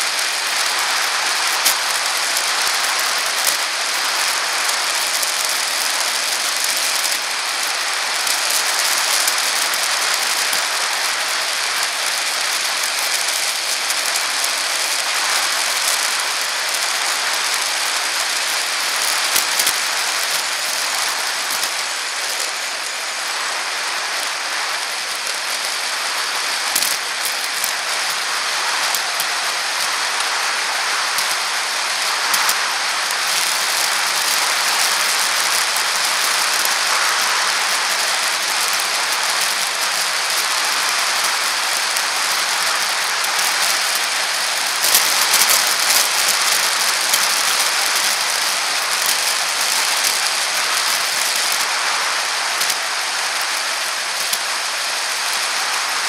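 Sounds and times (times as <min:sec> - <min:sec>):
bicycle tyre and wind noise: 0:00.0 - 0:56.0.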